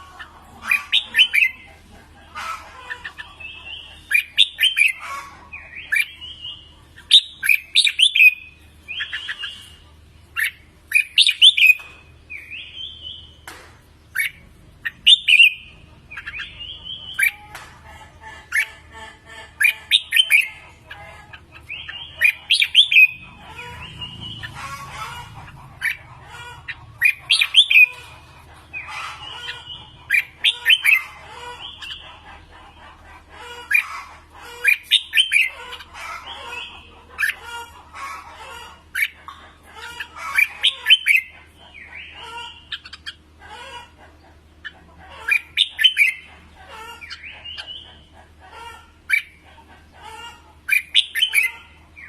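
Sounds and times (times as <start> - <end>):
birds singing warbled phrases: 0.0 - 52.0.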